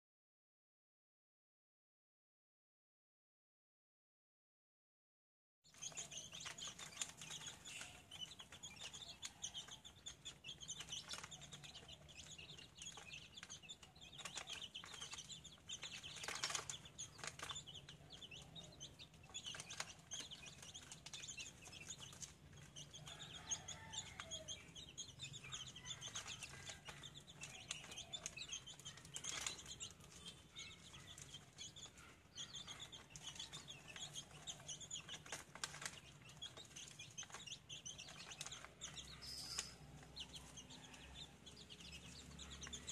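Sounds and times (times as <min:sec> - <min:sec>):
chickens clucking: 0:05.7 - 0:42.9
high chirping: 0:05.7 - 0:42.9.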